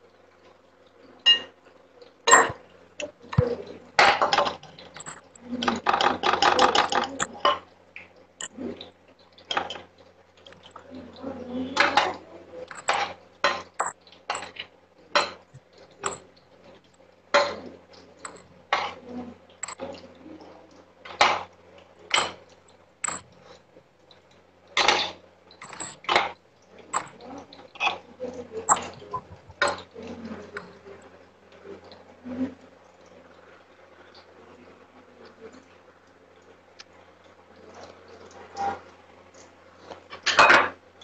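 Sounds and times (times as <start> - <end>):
food deep-frying: 0.0 - 41.0.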